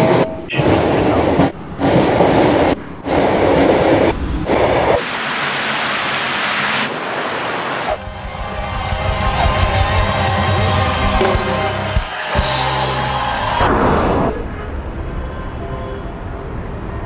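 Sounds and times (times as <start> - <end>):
metro train running on rails: 0.0 - 17.0.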